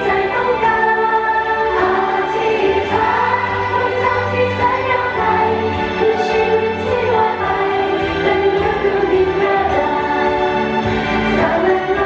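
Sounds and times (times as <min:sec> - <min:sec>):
girl group singing: 0:00.0 - 0:12.0
pop instrumental backing: 0:00.0 - 0:12.0.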